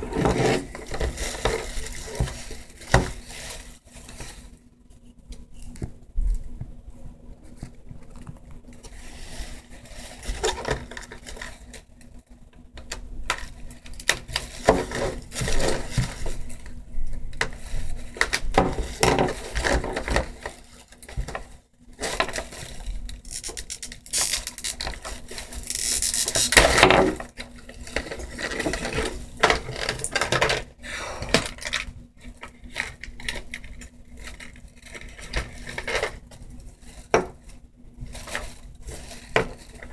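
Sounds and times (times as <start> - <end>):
scraping or rustling: 0.0 - 6.5, 7.4 - 11.9, 13.3 - 16.8, 17.4 - 39.9.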